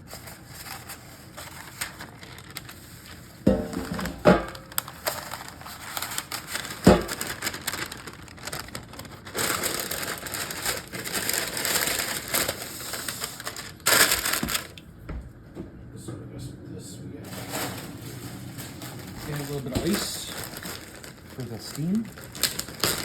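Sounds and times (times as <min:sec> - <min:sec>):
parchment paper crinkling: 0:00.0 - 0:14.8, 0:17.3 - 0:23.0.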